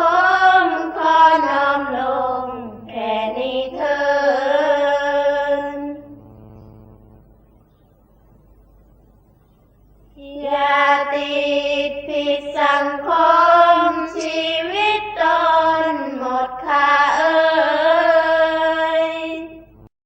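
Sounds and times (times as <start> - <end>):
person chanting a verse: 0.0 - 6.6, 10.2 - 19.6.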